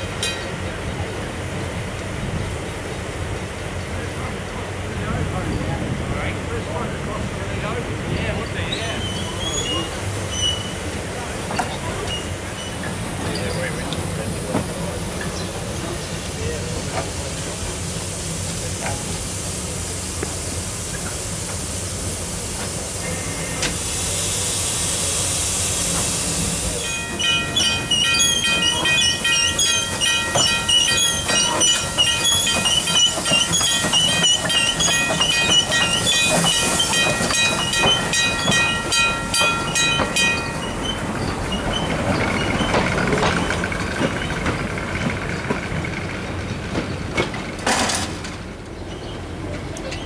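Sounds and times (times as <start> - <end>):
steam locomotive hissing: 0.0 - 50.0
train rolling: 0.0 - 50.0
wheels screeching on rails: 7.7 - 20.3, 20.9 - 50.0.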